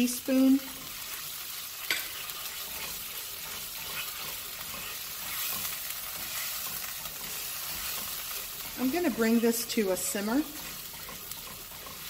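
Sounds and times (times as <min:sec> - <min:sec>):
sauce sizzling in a wok: 0:00.0 - 0:12.0
wooden spoon stirring: 0:00.6 - 0:12.0.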